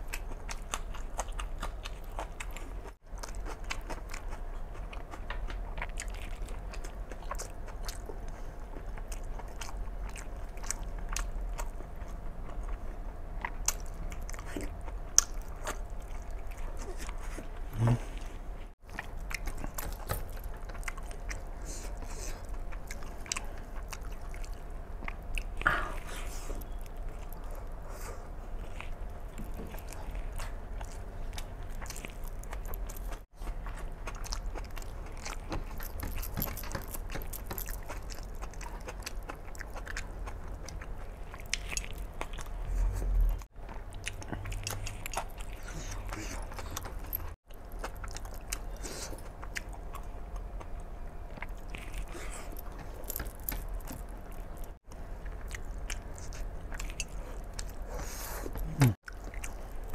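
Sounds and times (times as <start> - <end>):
person chewing and biting: 0.0 - 59.9.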